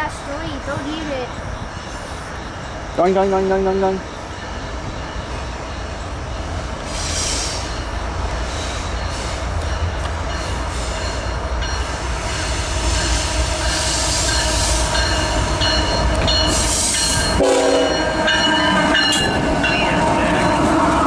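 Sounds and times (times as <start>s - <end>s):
freight train rumble: 0.0s - 21.0s
steel wheels squealing on rail: 0.1s - 21.0s.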